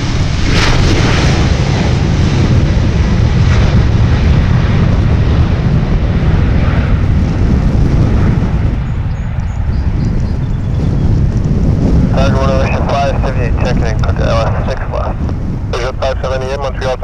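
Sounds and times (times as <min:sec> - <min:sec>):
airliner engines running: 0:00.0 - 0:17.0.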